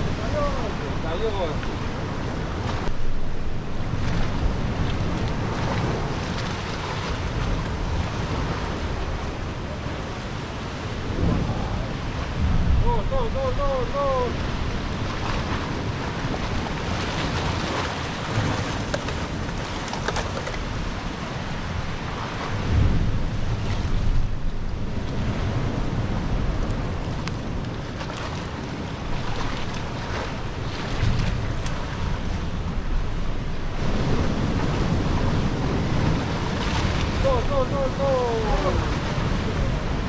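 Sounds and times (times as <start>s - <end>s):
surf against rocky shore: 0.0s - 40.0s
wind buffeting microphone: 0.0s - 40.0s.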